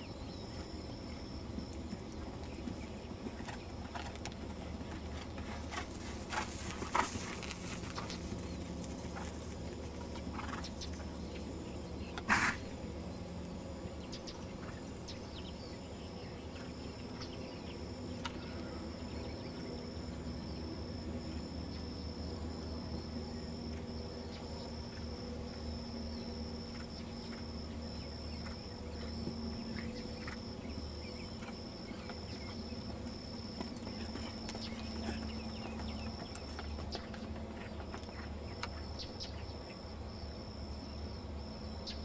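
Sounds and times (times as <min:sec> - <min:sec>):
insects trilling: 0:00.0 - 0:42.0
low steady hum: 0:00.0 - 0:42.0.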